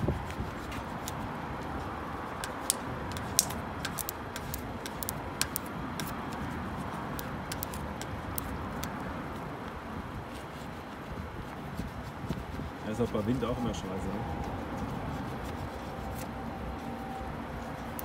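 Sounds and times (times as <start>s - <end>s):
wind rushing and buffeting: 0.0s - 18.0s.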